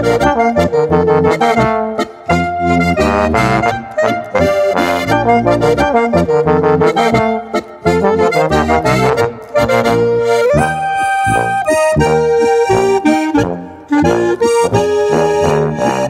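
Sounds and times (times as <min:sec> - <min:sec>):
accordion folk dance tune: 0:00.0 - 0:16.0
steady bass line: 0:00.0 - 0:16.0.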